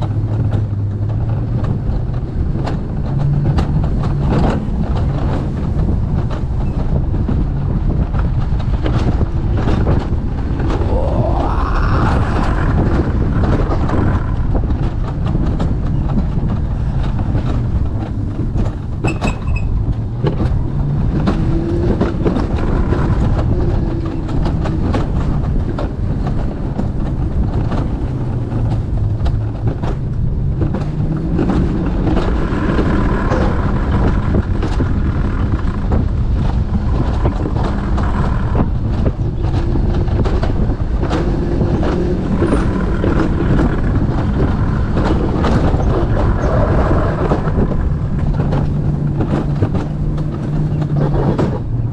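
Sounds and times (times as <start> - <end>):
sled wheels rumbling on metal rail: 0.0 - 51.9.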